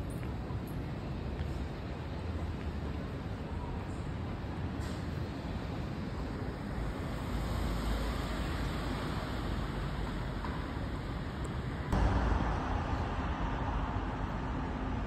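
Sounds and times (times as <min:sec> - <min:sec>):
hum of city traffic: 0:00.0 - 0:15.0.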